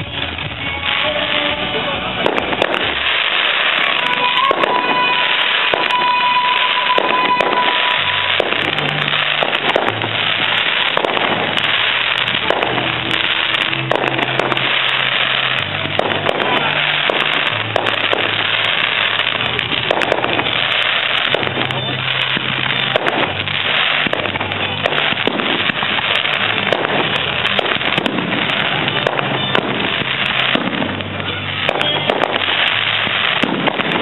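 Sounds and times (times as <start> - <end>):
fireworks crackling: 0.0 - 34.0
firework shells bursting: 2.2 - 34.0.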